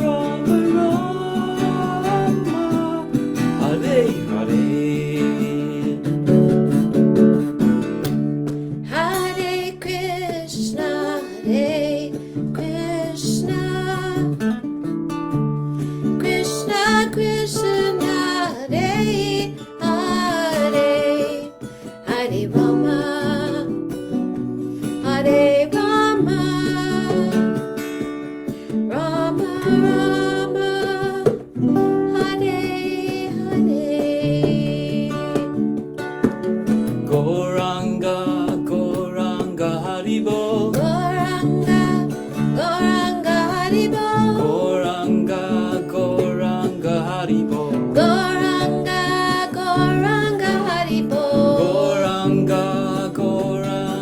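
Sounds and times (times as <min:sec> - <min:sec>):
person singing devotional melody: 0:00.0 - 0:06.6, 0:08.8 - 0:14.5, 0:16.1 - 0:24.2, 0:24.8 - 0:35.9, 0:37.0 - 0:54.0.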